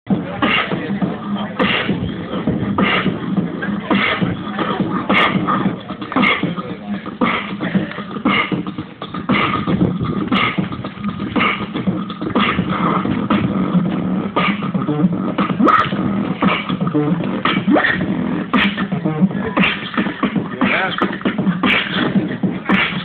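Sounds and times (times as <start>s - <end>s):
beatboxing hip-hop beat: 0.1s - 23.0s.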